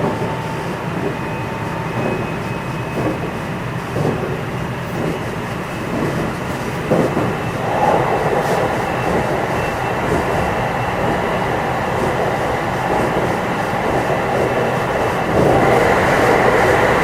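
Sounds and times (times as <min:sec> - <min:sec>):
faint high whine: 0:00.0 - 0:16.8
train wheel and track noise: 0:00.0 - 0:17.0.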